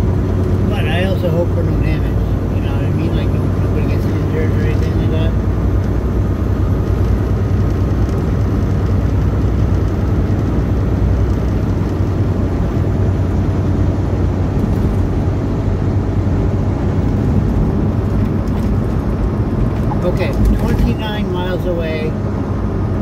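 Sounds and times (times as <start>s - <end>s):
truck engine drone: 0.0s - 23.0s.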